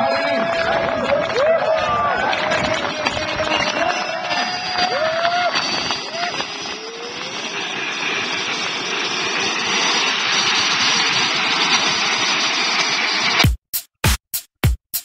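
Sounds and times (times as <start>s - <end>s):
model jet engine rushing: 0.0s - 13.4s.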